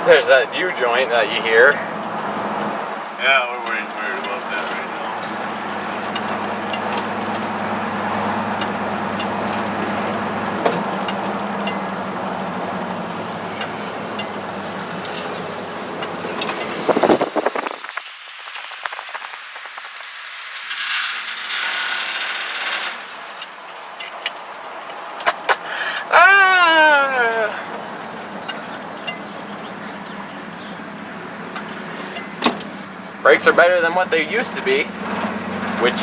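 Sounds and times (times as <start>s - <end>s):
truck driveline hum: 0.0s - 36.0s.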